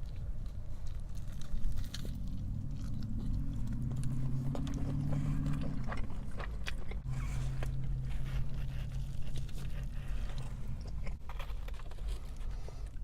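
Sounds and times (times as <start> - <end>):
chewing with wet mouth smacks: 0.0 - 13.0
low steady hum: 0.0 - 13.0.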